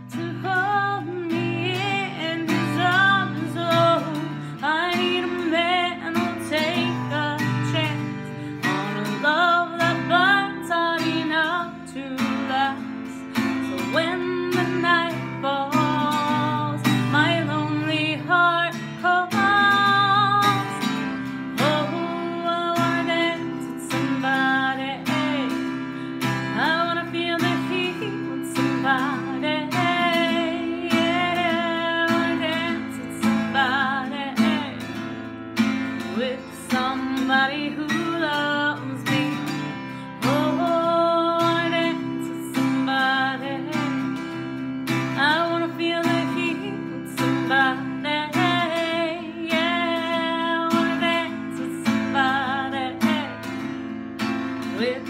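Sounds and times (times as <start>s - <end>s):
acoustic guitar strumming: 0.0s - 55.0s
person singing: 0.0s - 55.0s.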